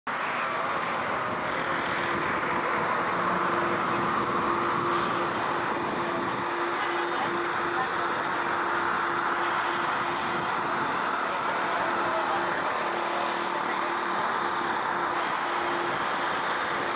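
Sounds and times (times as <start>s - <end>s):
jet engines on runway: 0.1s - 16.9s.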